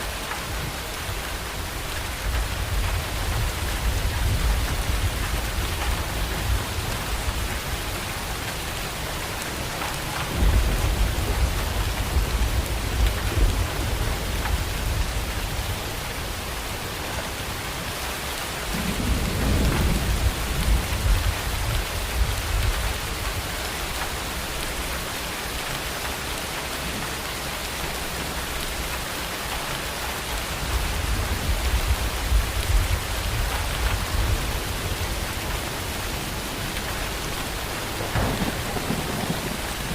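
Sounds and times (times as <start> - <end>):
steady rain: 0.0 - 39.9
thunder rumbling: 0.4 - 16.8, 18.6 - 24.9, 30.5 - 39.9.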